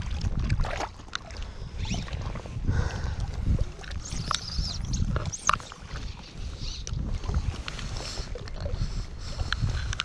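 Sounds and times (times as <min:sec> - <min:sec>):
small waves lapping: 0:00.0 - 0:09.4
wind rumbling on microphone: 0:00.0 - 0:10.0.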